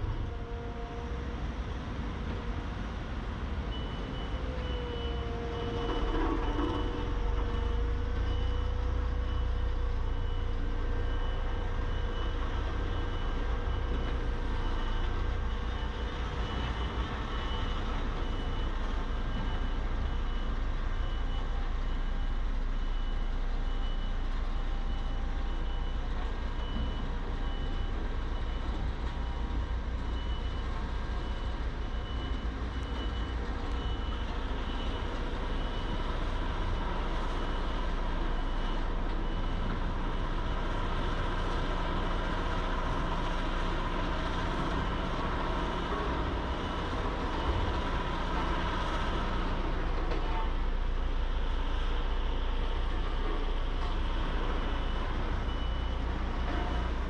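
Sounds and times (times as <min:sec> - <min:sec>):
construction machinery engine rumble: 0:00.0 - 0:57.0
reversing alarm beeping: 0:03.7 - 0:57.0.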